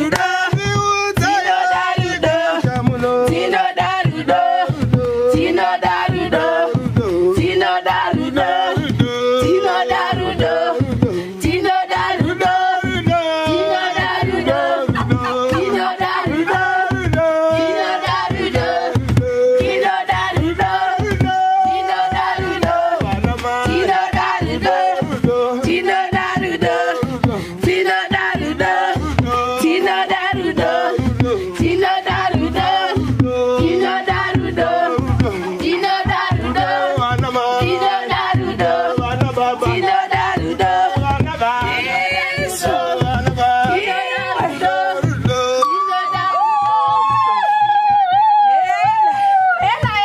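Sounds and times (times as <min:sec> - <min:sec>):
group of voices singing: 0:00.0 - 0:50.0
steady drumbeat: 0:00.0 - 0:50.0.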